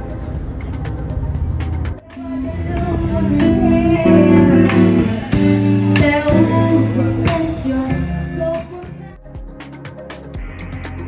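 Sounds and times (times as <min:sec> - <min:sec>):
instrumental backing: 0:00.0 - 0:11.0.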